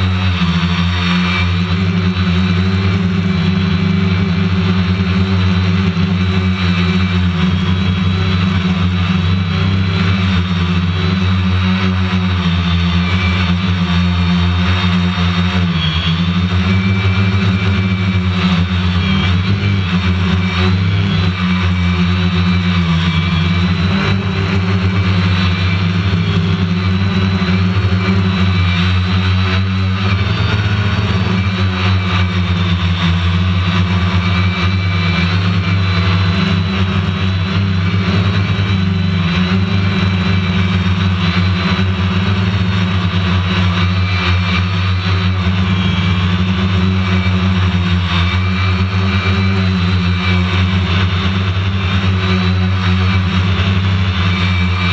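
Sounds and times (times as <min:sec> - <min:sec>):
drone propellers humming: 0:00.0 - 0:54.9.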